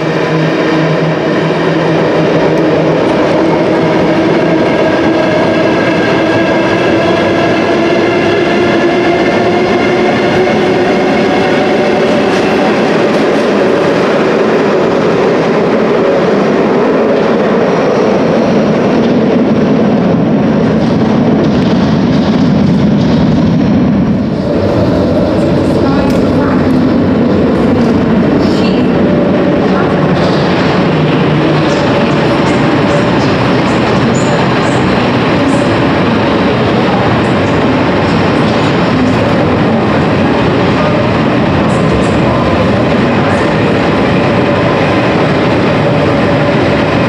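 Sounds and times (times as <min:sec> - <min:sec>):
train rumbling on rails: 0:00.0 - 0:47.0.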